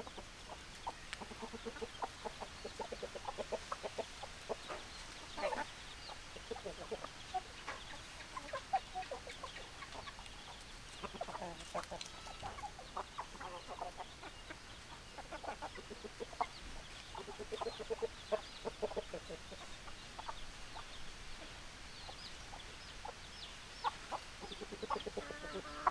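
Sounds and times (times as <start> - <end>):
hens clucking: 0.0 - 25.9.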